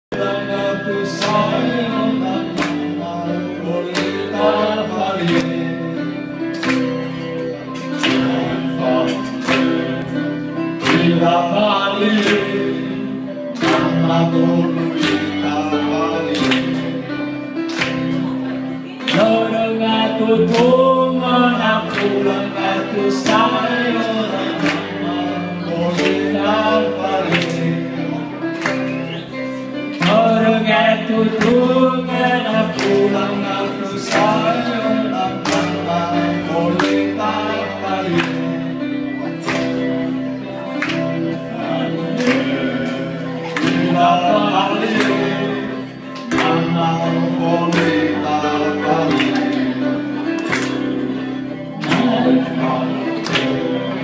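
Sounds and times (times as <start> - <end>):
men singing into microphones: 0.1 - 6.9, 7.8 - 17.3, 18.1 - 54.0
electric guitar: 0.1 - 54.0.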